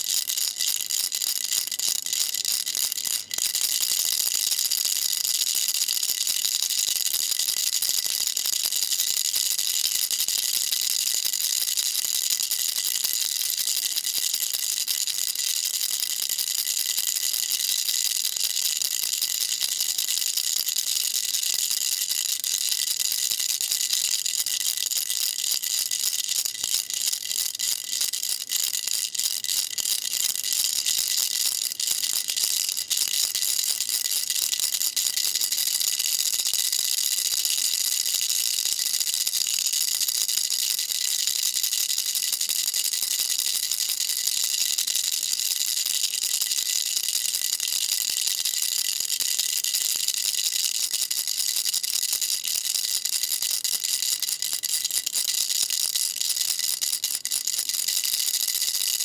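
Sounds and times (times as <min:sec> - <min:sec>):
baby rattle shaken: 0:00.0 - 0:08.7, 0:15.1 - 0:59.0.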